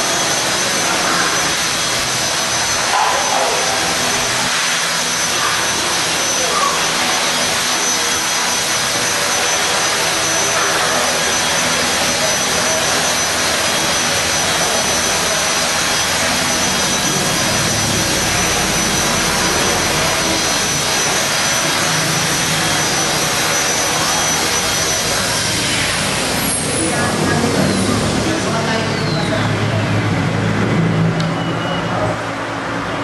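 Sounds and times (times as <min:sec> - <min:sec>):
electric motor high-pitched whine: 0:00.0 - 0:31.4.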